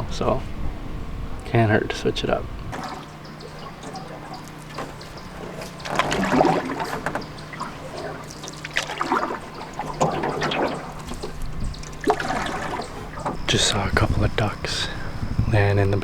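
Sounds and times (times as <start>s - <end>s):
water sloshing and splashing: 2.3s - 16.0s.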